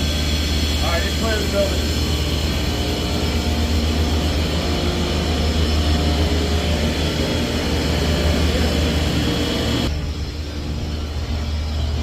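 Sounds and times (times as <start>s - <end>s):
heavy machinery low drone: 0.0s - 12.0s
steady machine tones: 0.0s - 12.0s.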